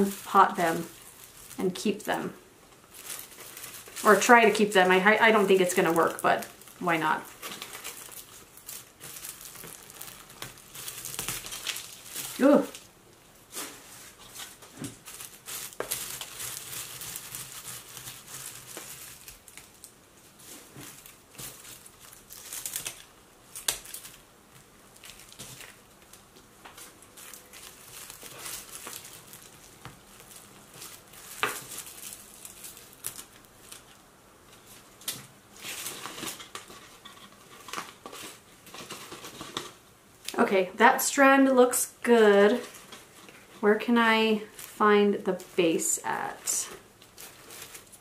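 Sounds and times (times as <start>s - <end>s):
dry leaves rustling and crinkling: 0.0s - 39.8s, 44.4s - 48.0s.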